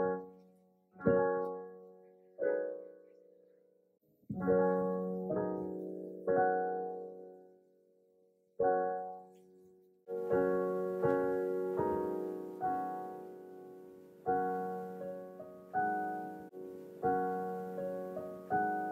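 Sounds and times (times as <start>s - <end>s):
slow piano chords: 0.0s - 3.5s, 4.2s - 7.7s, 8.6s - 18.9s.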